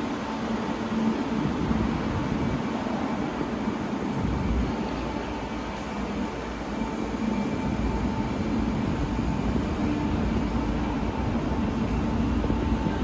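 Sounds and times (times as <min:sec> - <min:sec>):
electric train rumbling: 0:00.0 - 0:13.0
faint steady whine: 0:00.0 - 0:13.0.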